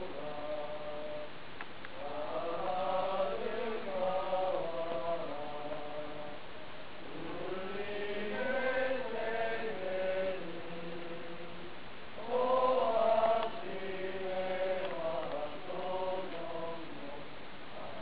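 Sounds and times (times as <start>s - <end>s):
group singing slowly: 0.0s - 18.0s.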